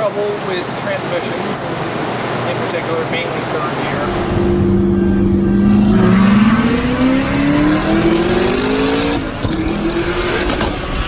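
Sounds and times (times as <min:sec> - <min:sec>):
car engine revving: 0:00.2 - 0:11.0.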